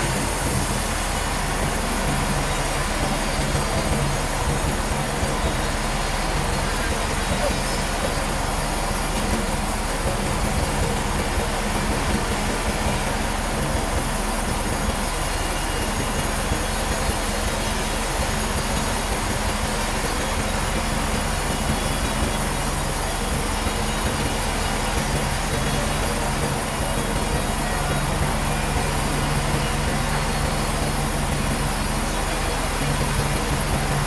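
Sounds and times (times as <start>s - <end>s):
sawmill machinery humming: 0.0s - 34.0s.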